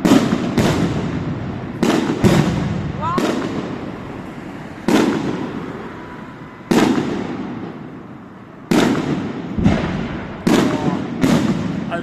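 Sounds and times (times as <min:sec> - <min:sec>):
fireworks bangs echoing: 0:00.0 - 0:12.0.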